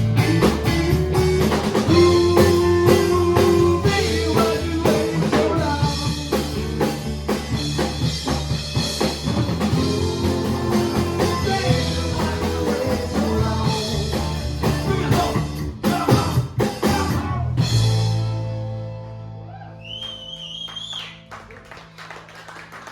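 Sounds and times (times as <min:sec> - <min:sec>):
live rock band playing: 0:00.0 - 0:19.5.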